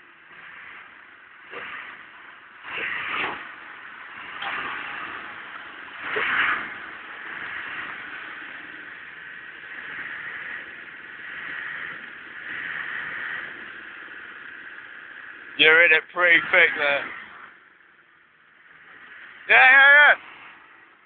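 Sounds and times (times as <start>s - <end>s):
off-road vehicle engine under load: 0.0s - 21.0s.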